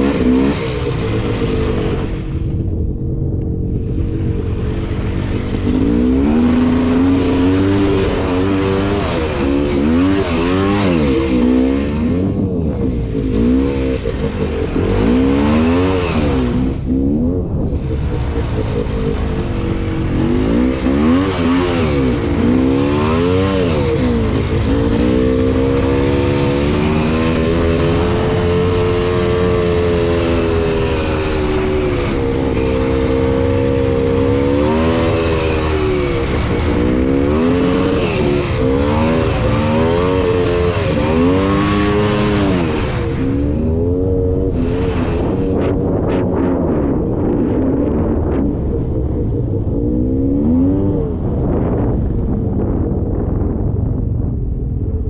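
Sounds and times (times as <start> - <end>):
atv engine revving: 0.0 - 52.8.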